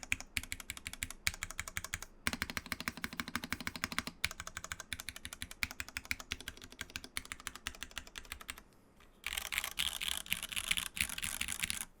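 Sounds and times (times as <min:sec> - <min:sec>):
mechanical keyboard typing: 0:00.0 - 0:08.6, 0:09.2 - 0:11.9.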